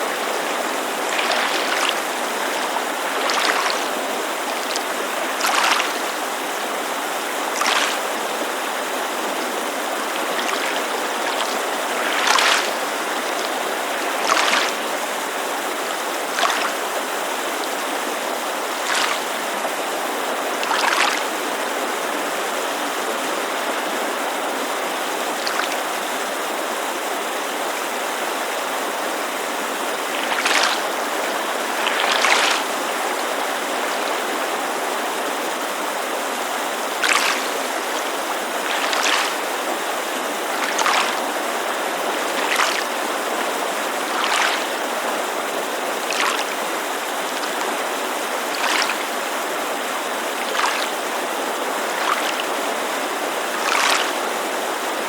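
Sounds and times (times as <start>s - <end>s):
creek rushing: 0.0s - 55.0s
small waves lapping shore: 0.0s - 55.0s.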